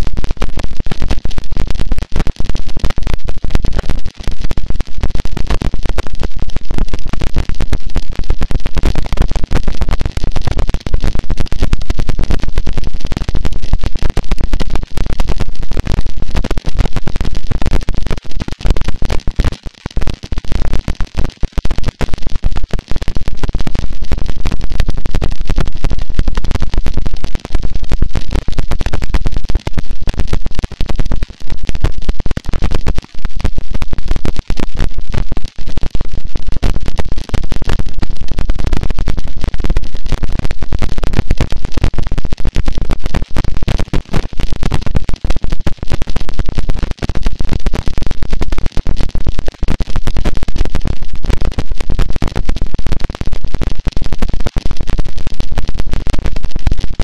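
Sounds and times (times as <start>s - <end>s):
distorted static noise wall: 0.0s - 57.0s.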